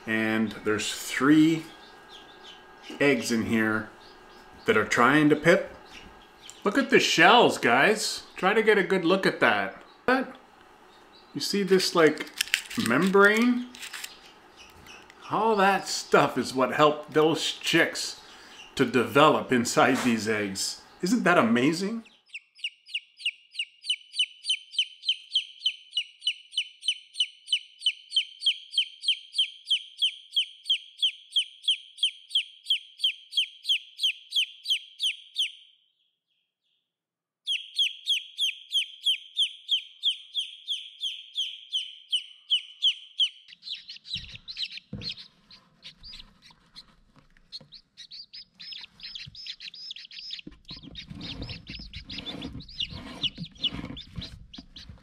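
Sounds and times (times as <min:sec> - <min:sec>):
chick peeping: 0:00.0 - 0:35.6, 0:37.5 - 0:55.0.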